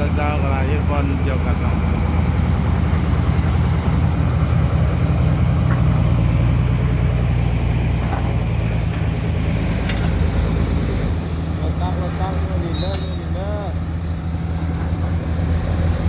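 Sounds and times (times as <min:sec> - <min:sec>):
heavy machinery engine droning: 0:00.0 - 0:16.0.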